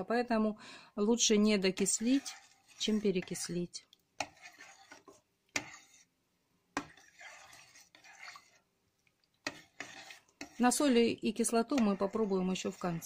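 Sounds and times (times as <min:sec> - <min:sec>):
spoon stirring vegetables in liquid: 0:01.1 - 0:13.0.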